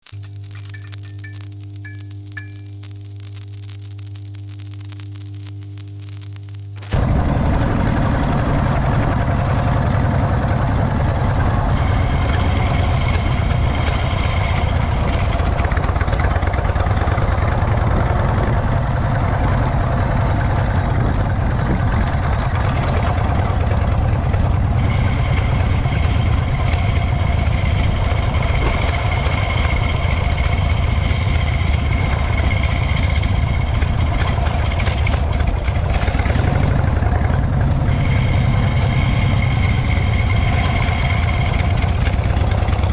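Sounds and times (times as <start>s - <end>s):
motorcycle engine running: 6.9s - 42.9s.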